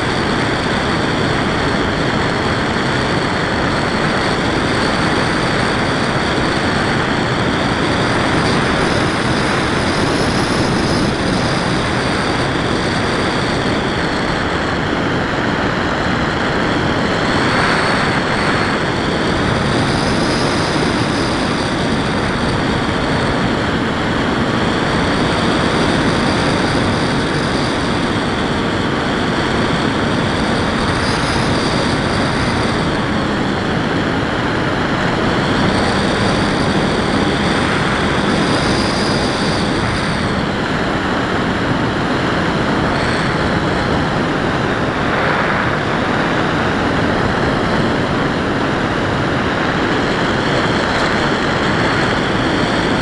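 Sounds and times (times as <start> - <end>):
electric motor and propeller whining: 0.0 - 53.0
wind rush over camera: 0.0 - 53.0.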